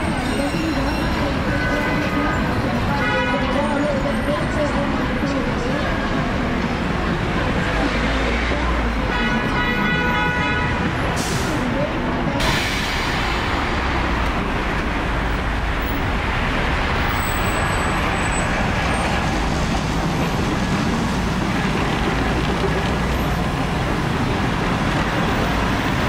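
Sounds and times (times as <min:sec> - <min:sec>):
tram passing: 0:00.0 - 0:09.7, 0:10.6 - 0:26.0
road traffic: 0:00.0 - 0:26.0.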